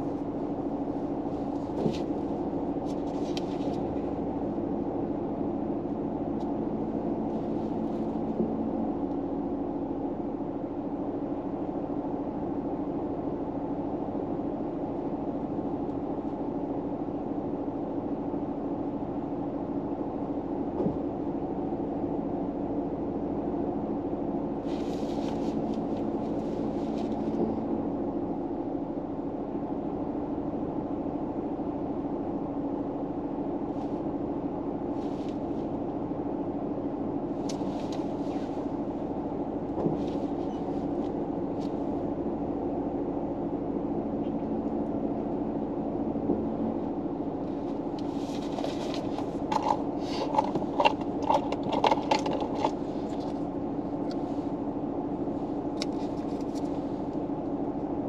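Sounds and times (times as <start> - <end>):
low hum inside car: 0.0 - 58.0.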